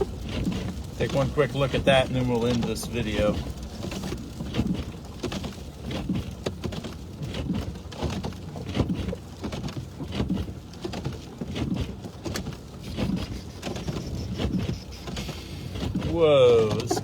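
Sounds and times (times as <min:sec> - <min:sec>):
car rumbling on wet road: 0:00.0 - 0:17.0
sleet ticking on car: 0:00.0 - 0:17.0.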